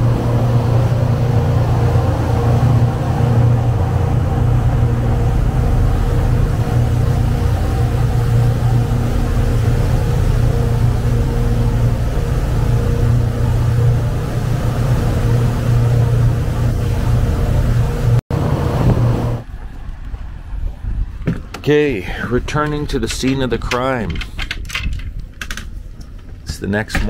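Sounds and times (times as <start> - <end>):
boat engines running: 0.0 - 27.0
rushing wind and water: 0.0 - 27.0.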